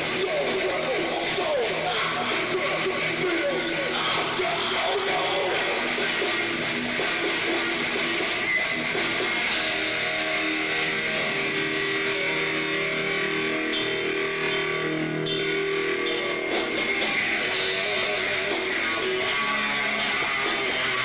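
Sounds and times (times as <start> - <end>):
drums: 0.0 - 21.0
electric guitar riffing: 0.0 - 21.0.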